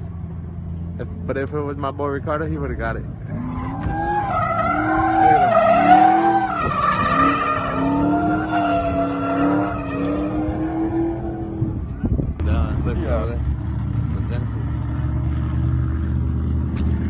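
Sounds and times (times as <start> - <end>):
car engine revving: 0.0 - 17.0
tires squealing: 3.2 - 17.0.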